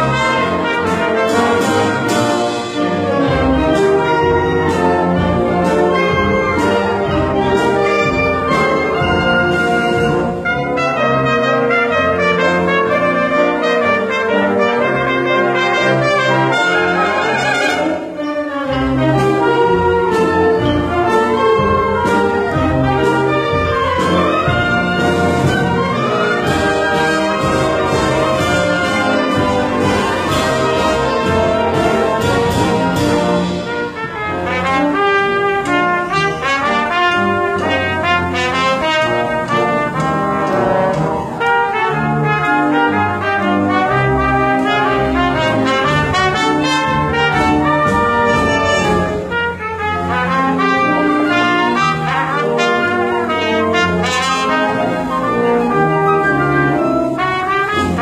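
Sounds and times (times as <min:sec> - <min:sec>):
solo trumpet melody: 0:00.0 - 0:58.0
wind band playing slow piece: 0:00.0 - 0:58.0.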